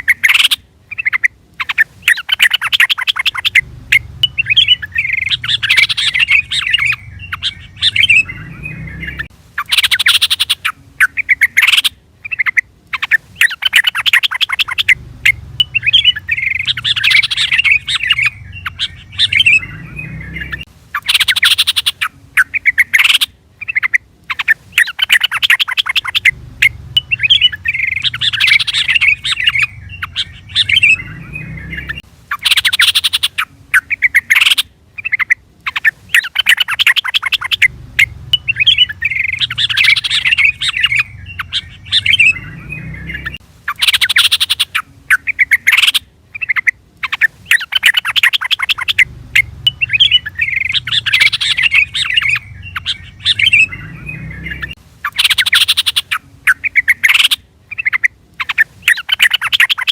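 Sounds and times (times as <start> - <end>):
bird chirping and chattering: 0.0 - 59.9.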